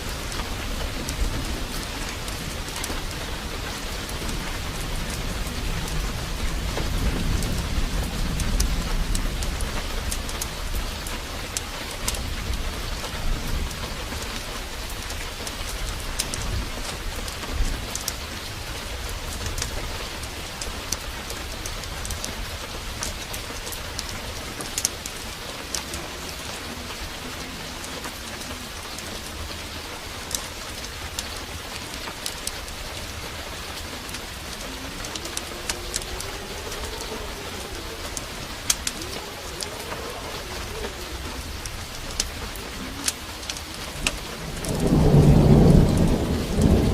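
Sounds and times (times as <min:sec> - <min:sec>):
heavy rain falling: 0:00.0 - 0:46.9
thunder rumble: 0:00.0 - 0:46.9.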